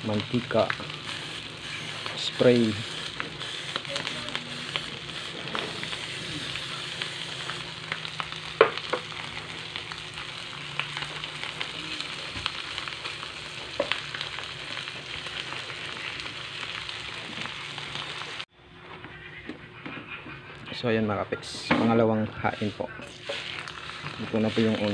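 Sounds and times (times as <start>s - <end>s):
fish sizzling in oil: 0.0s - 18.5s, 22.4s - 24.9s.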